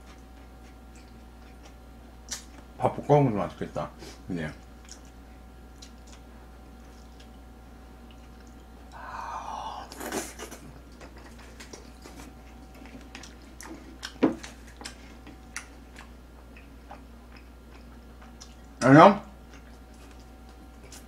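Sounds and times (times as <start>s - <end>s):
chewing: 0.0s - 2.6s, 4.8s - 9.0s, 9.9s - 18.8s, 19.4s - 21.0s.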